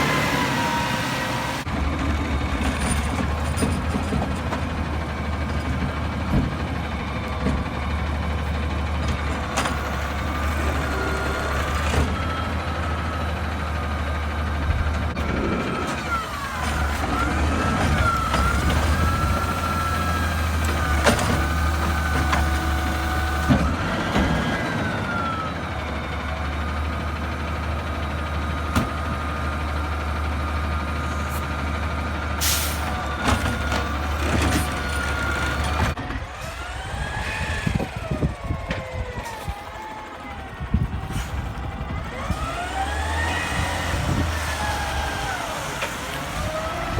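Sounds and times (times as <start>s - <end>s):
garbage truck diesel engine running: 0.0s - 46.9s.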